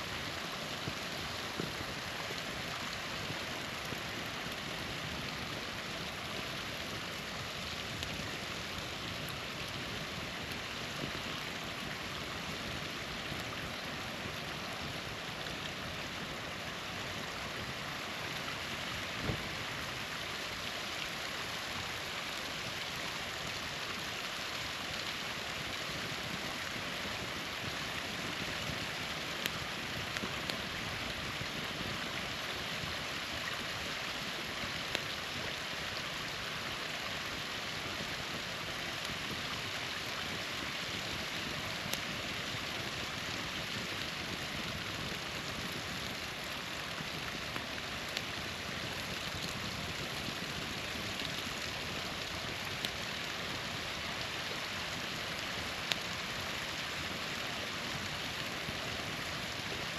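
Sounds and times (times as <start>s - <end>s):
campfire crackling and popping: 0.0s - 59.9s
small waterfall splashing: 0.0s - 59.9s.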